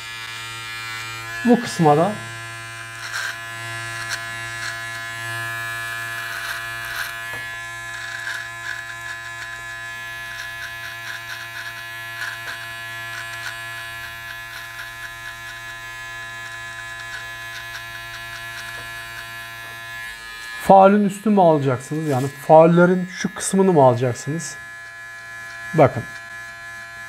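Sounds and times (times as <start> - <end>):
blades cutting hair crackles: 0.0 - 27.0
electric beard trimmer buzzing: 0.0 - 27.0.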